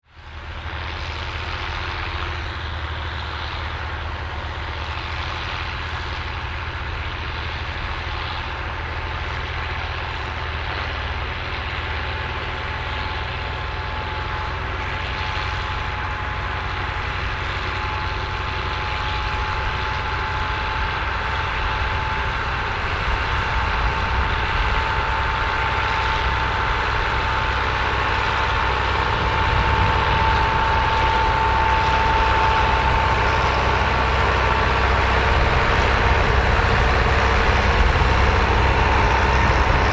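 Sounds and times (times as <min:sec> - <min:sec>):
steady engine whine: 0:00.0 - 0:39.9
tractor engine running under load: 0:00.0 - 0:39.9.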